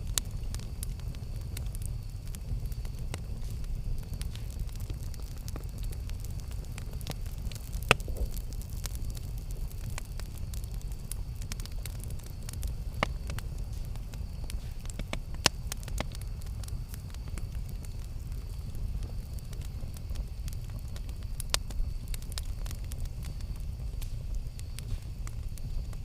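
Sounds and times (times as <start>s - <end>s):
campfire rumble: 0.0s - 26.0s
crackles and pops of burning wood: 0.0s - 26.0s.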